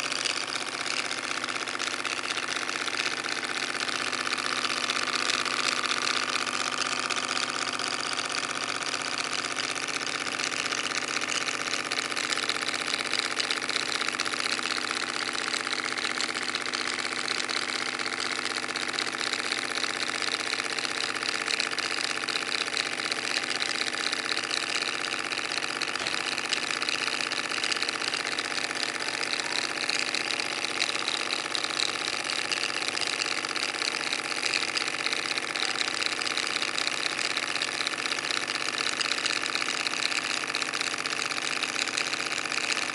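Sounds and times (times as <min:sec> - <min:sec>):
model engine mechanical clatter: 0:00.0 - 0:42.9.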